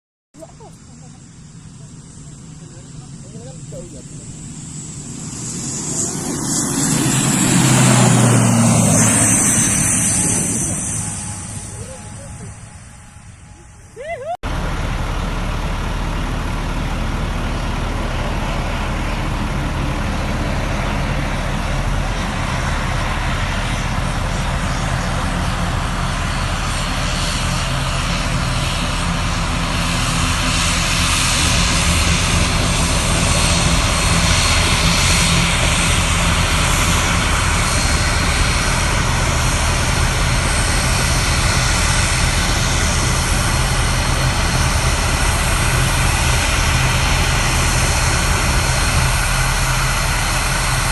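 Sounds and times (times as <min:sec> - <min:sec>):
airliner engines running: 0:00.4 - 0:50.9.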